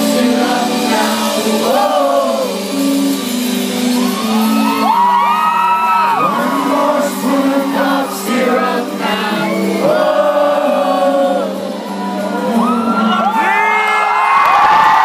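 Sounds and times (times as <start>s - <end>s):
rock band playing live: 0.0s - 13.8s
person singing: 0.0s - 14.0s
crowd shouting and whooping: 0.6s - 15.0s.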